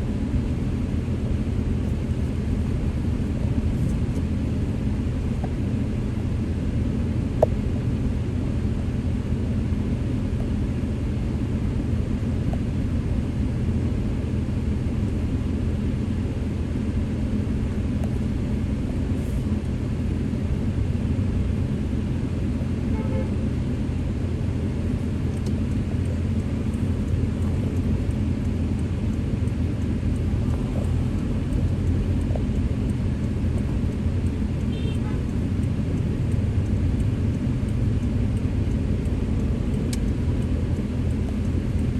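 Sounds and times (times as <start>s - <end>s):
street traffic rumble: 0.0s - 41.9s.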